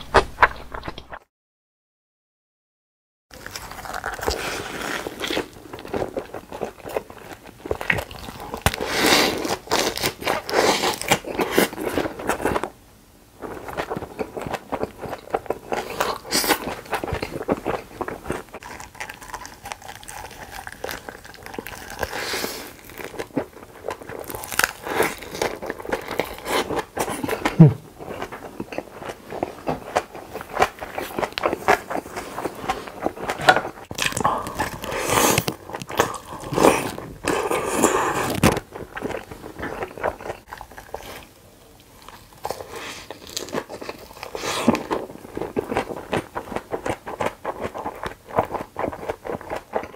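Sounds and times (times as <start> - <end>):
wet chewing and crunching: 3.3 - 12.8, 13.4 - 49.9.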